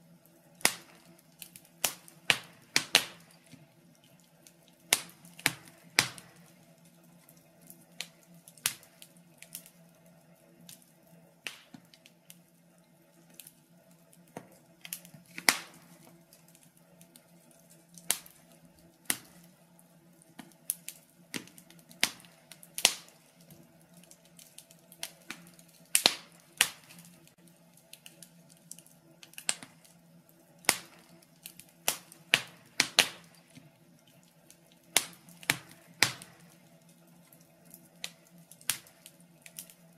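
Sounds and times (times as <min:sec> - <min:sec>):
steady low hum: 0:00.0 - 0:39.9
wood fire crackling: 0:00.0 - 0:39.9.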